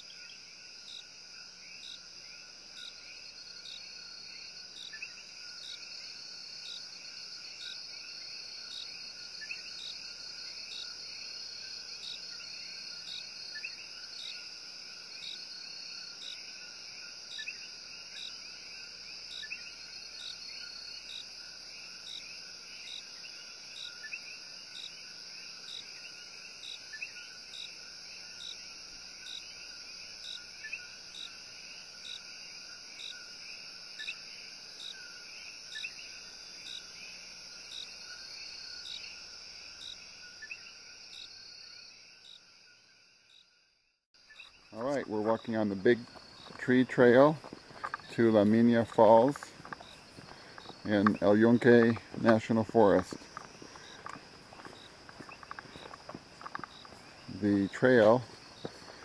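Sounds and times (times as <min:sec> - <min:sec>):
frogs calling: 0:00.0 - 0:43.5, 0:44.2 - 0:59.0.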